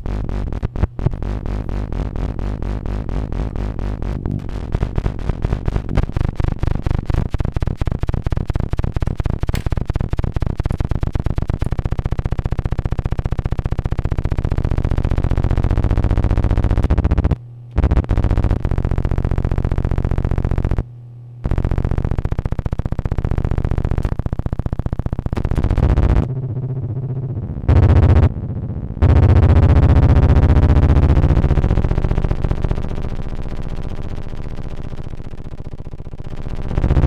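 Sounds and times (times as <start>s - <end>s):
harsh electronic feedback buzz: 0.0s - 20.8s, 21.4s - 37.0s.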